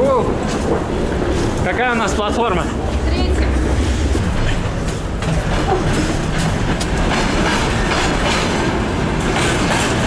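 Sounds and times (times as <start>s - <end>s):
train rumbling on rails: 0.0s - 10.0s
train wheels clicking: 0.0s - 10.0s.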